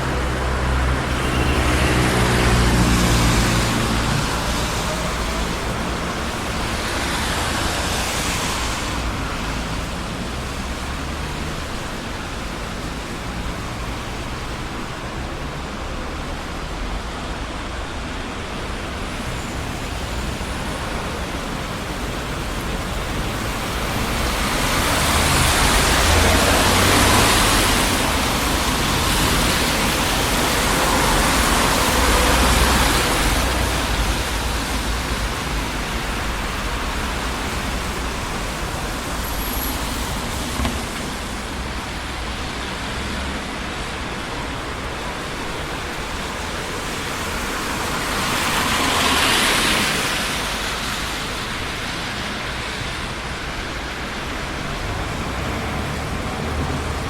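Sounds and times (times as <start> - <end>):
road traffic noise: 0.0 - 57.0
vehicles passing by: 0.0 - 57.0.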